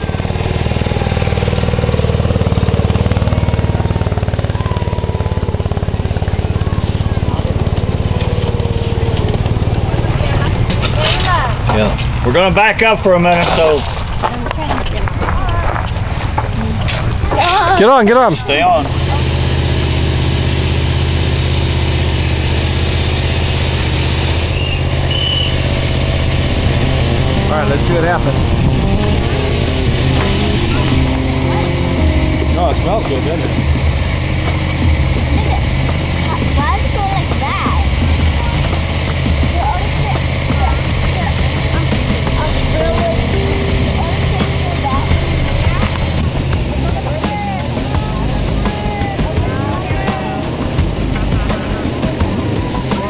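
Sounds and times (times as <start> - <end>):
small locomotive engine pulsing: 0.0 - 13.1, 16.5 - 53.0.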